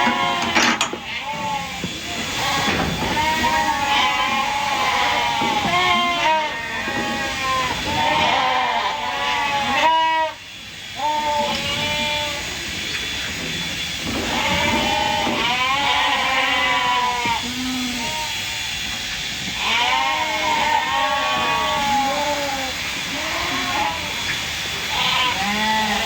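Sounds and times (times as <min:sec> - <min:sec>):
sheep bleating: 0:00.0 - 0:12.5, 0:14.2 - 0:18.8, 0:19.5 - 0:26.0.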